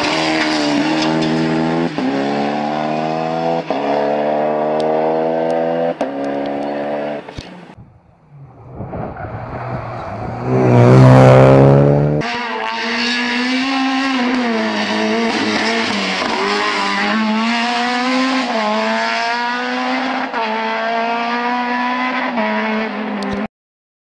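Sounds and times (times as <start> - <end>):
rally car engine revving: 0.0 - 23.5.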